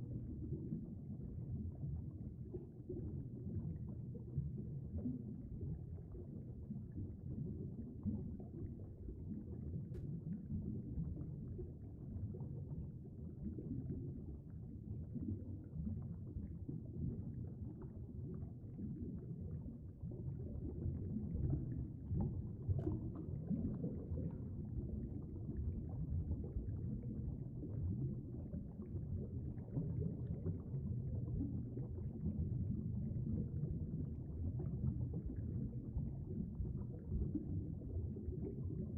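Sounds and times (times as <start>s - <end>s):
muffled underwater stream rumble: 0.0s - 38.9s.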